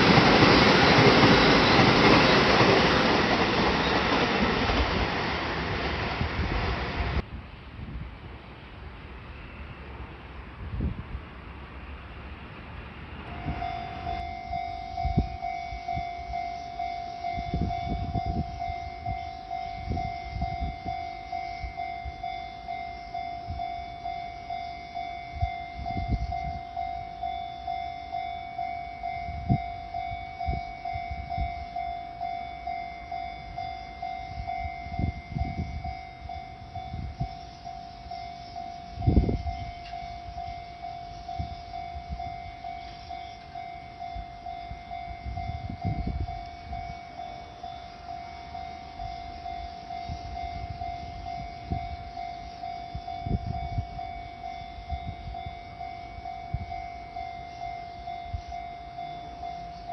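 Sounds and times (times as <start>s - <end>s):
level crossing warning bell: 0.0s - 5.0s, 13.2s - 59.9s.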